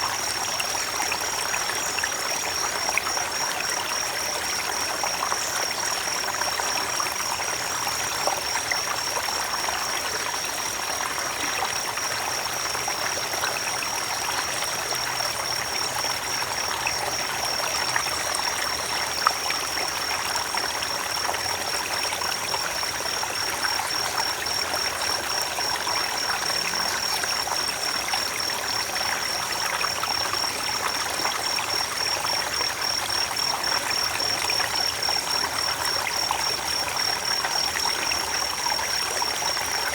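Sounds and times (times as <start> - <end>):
creek water running over stones: 0.0 - 39.9.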